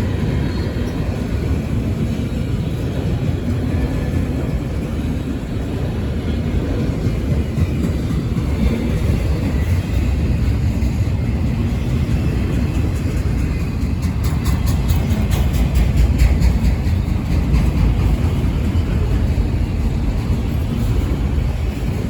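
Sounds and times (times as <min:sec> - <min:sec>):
freight train rumbling by: 0:00.0 - 0:22.0.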